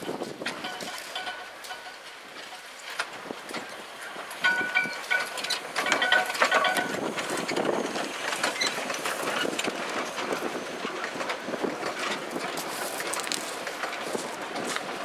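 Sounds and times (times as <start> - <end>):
clicks and rattles of wheels: 0.0 - 15.0
train rushing noise: 0.0 - 15.0.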